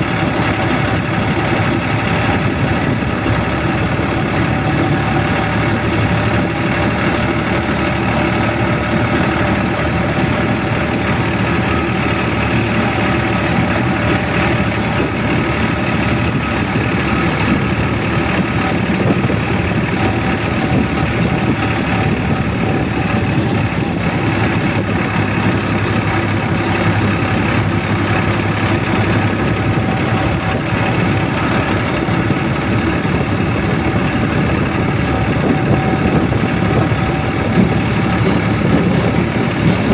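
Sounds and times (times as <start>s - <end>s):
road noise: 0.0s - 39.9s
vehicle engine hum: 0.0s - 39.9s.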